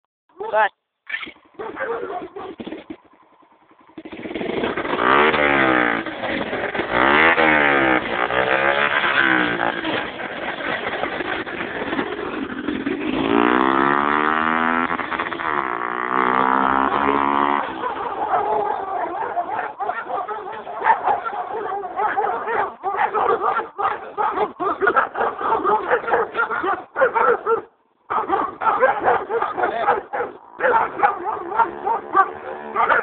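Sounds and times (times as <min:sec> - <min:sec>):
motorcycle engine revving: 0:01.1 - 0:33.0.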